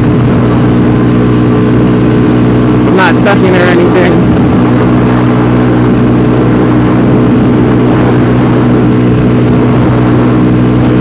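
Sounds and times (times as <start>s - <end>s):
motorcycle engine running hard: 0.0s - 11.0s
rushing air noise: 0.0s - 11.0s.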